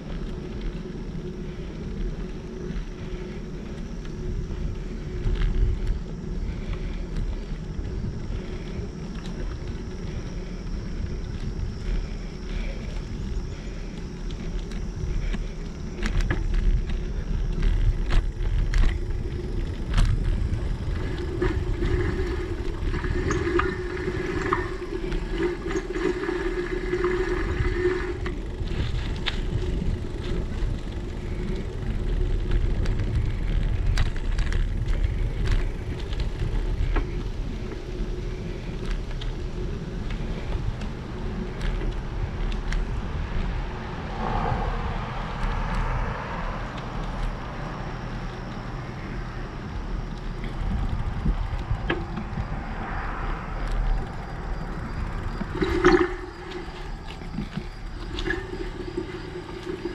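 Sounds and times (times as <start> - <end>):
bicycle tyres rumbling: 0.0 - 59.9
bike clicks and rattles: 0.0 - 59.9
steady hum: 0.0 - 59.9
wind buffeting microphone: 0.0 - 59.9.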